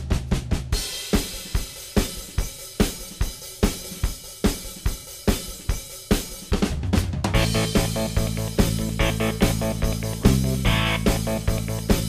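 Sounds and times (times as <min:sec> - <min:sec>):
music with drum-kit beat: 0:00.0 - 0:12.0.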